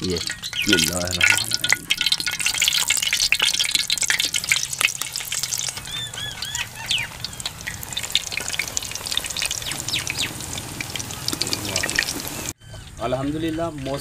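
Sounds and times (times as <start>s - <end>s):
batter sizzling in hot oil: 0.0s - 12.6s
bird calling: 0.0s - 13.7s.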